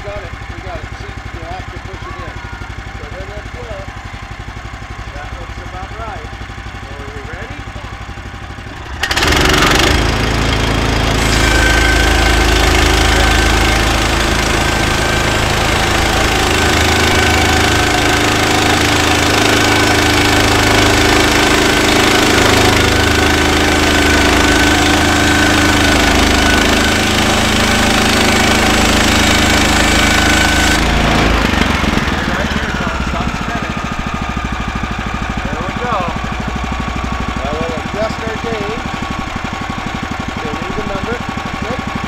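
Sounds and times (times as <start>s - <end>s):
bandsaw mill engine drone: 0.0s - 42.0s
high blade whine: 5.1s - 42.0s.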